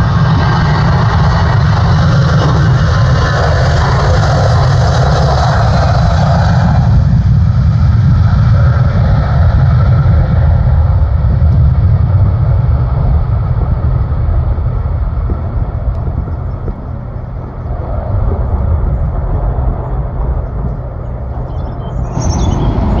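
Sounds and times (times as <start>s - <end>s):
jet engines roaring at take-off: 0.0s - 23.0s.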